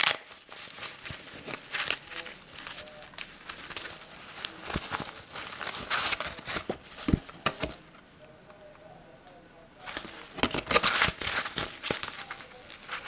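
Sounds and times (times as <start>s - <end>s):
filter cards rustling and sliding: 0.0s - 8.2s, 9.8s - 13.0s.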